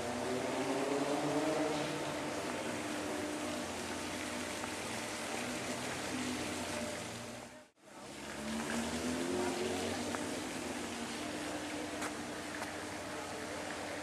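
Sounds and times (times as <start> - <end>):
faint traffic: 0.0 - 14.0.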